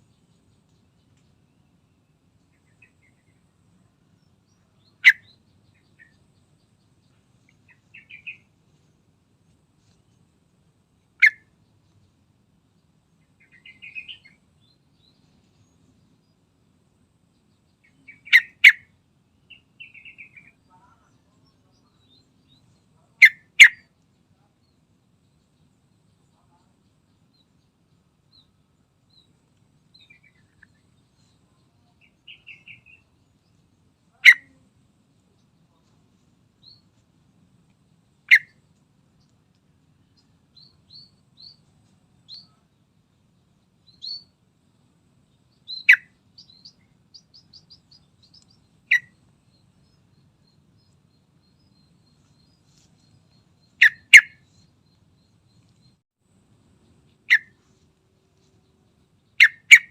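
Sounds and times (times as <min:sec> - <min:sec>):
soft bird twittering and trills: 0:00.0 - 0:59.9.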